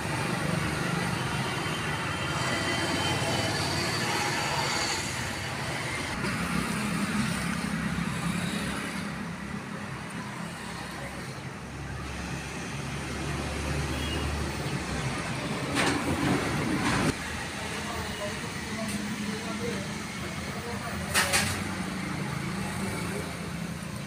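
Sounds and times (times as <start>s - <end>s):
traffic noise: 0.0s - 24.0s.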